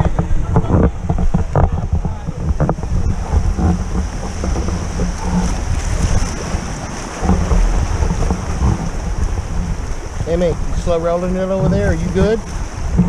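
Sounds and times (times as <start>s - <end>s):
river water rushing and splashing: 0.0s - 13.0s
wind buffeting microphone: 0.0s - 13.0s.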